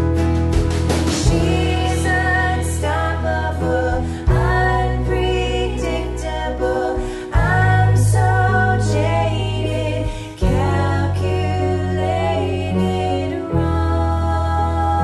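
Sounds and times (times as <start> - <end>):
women singing together: 1.3 - 15.0.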